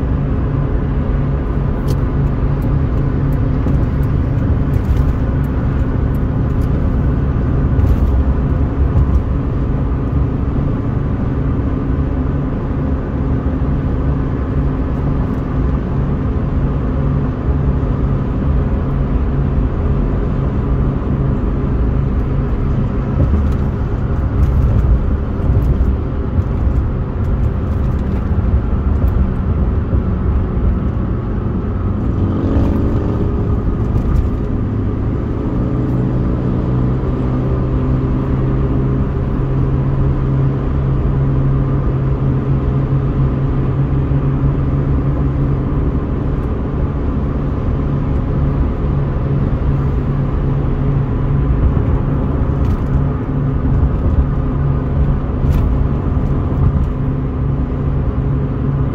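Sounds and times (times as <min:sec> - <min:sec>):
car engine hum: 0:00.0 - 0:58.9
tyre and road noise: 0:00.0 - 0:58.9.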